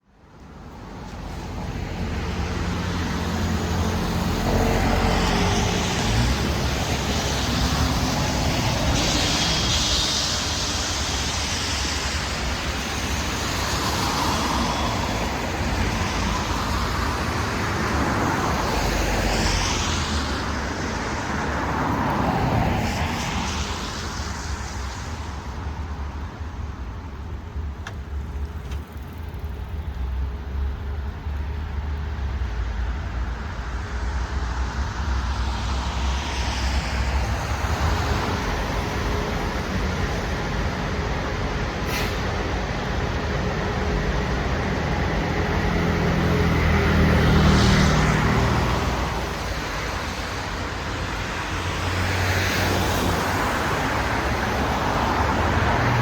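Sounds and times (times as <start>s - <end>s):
low traffic rumble: 0.0s - 56.0s
cars passing on wet road: 0.1s - 56.0s.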